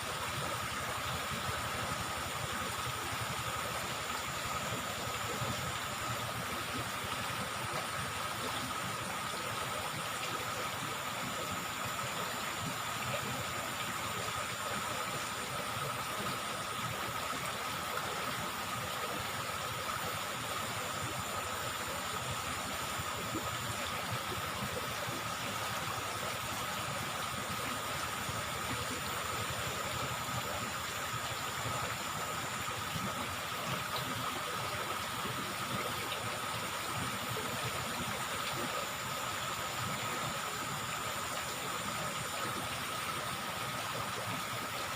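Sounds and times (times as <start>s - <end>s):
flowing river water: 0.0s - 44.9s.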